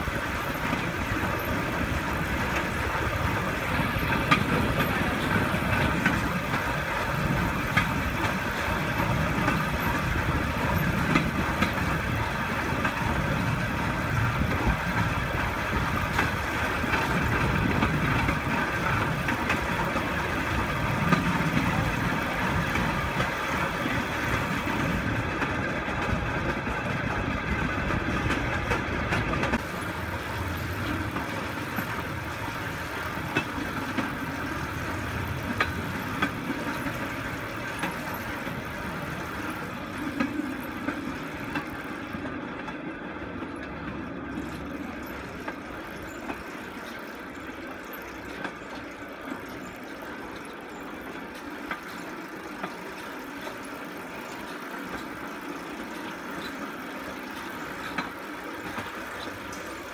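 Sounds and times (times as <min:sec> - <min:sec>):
steel wheels rumbling on rails: 0:00.0 - 0:59.9.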